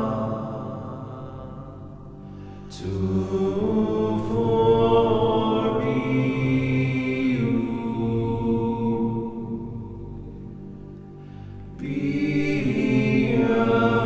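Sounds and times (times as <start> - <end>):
chant-like vocals: 0.0 - 14.0
low drone: 0.0 - 14.0.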